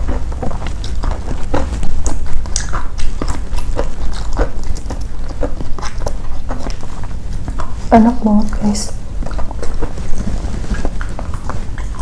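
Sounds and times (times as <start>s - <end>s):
crunchy chewing: 0.0s - 12.0s
steady low hum: 0.0s - 12.0s.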